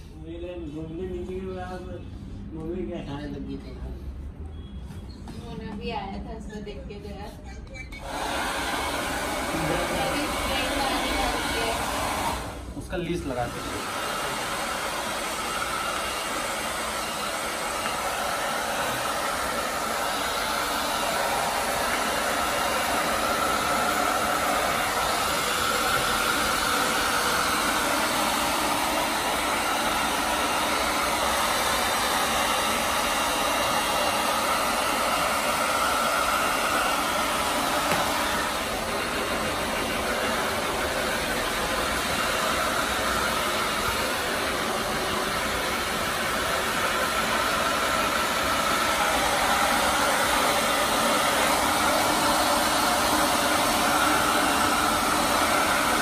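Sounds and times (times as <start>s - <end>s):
pet dryer blowing air: 8.0s - 56.0s.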